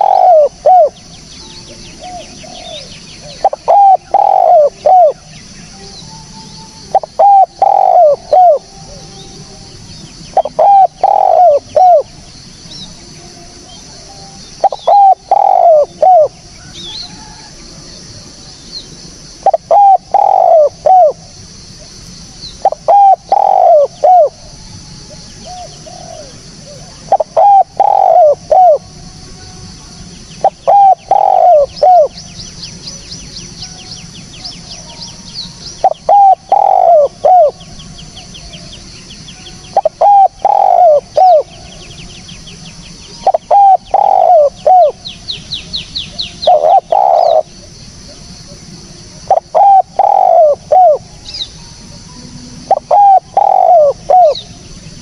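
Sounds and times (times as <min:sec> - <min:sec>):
dove cooing: 0:00.0 - 0:18.3, 0:19.4 - 0:29.0, 0:30.4 - 0:32.2, 0:34.5 - 0:38.8, 0:39.7 - 0:42.0, 0:43.1 - 0:45.1, 0:46.0 - 0:55.0
steady high hiss: 0:00.0 - 0:55.0.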